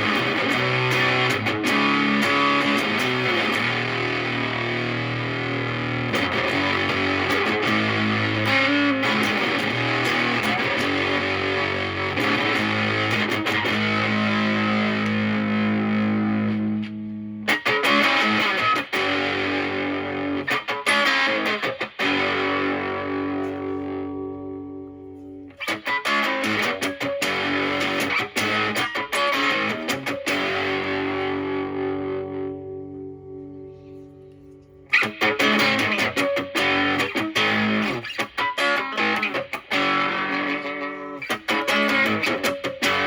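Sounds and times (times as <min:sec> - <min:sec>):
fuzzy electric guitar lead: 0:00.0 - 0:43.0.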